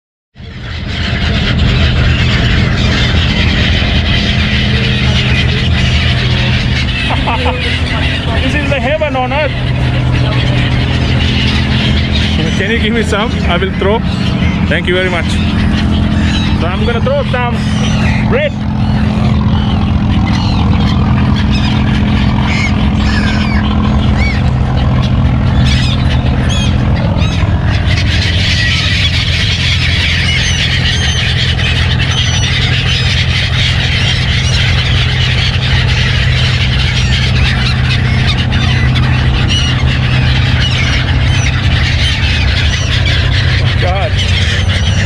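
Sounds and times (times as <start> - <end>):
gulls squealing and calling: 0.4 - 45.0
low mechanical hum: 0.4 - 45.0.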